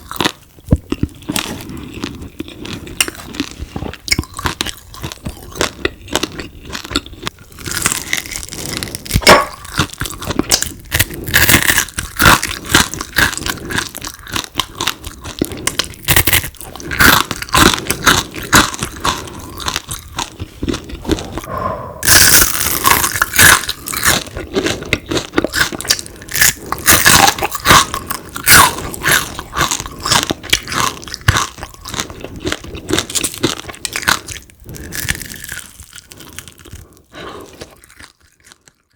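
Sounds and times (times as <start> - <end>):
person chewing crispy food: 0.0 - 38.9.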